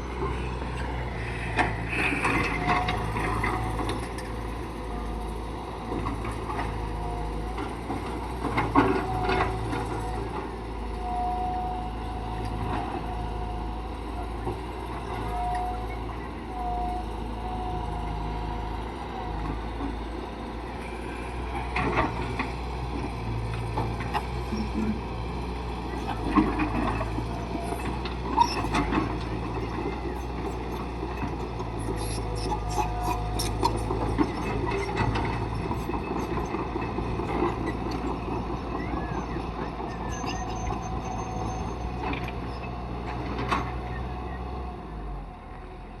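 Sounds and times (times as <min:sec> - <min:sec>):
low machine rumble: 0:00.0 - 0:42.6
low engine hum: 0:00.0 - 0:46.0.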